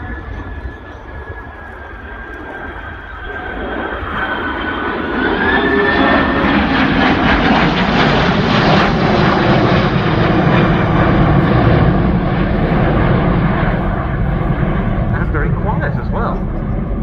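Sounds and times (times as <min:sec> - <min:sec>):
high engine whine: 0:00.0 - 0:17.0
jet aircraft flying past: 0:00.0 - 0:17.0.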